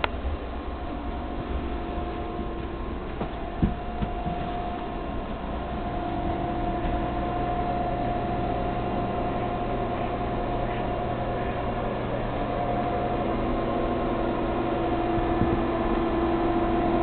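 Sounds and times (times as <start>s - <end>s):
aquarium pump hum with whine: 0.0s - 17.0s
deeper hum: 0.0s - 17.0s.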